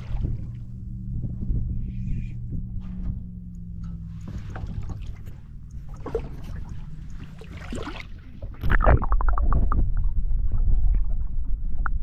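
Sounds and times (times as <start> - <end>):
deep rumble of water: 0.0 - 12.0
water: 0.0 - 12.0
wind: 0.0 - 12.0.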